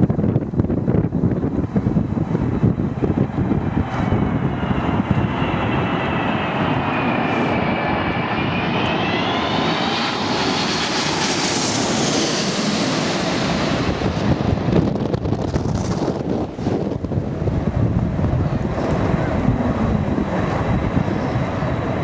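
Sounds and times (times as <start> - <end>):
jet airliner passing overhead: 0.0 - 22.0
wind rumbling on microphone: 0.0 - 22.0.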